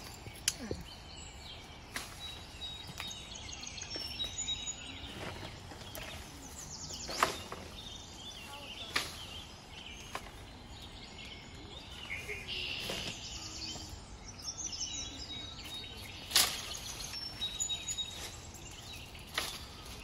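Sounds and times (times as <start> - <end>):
birds chirping: 0.0 - 20.0
outdoor background noise: 0.0 - 20.0.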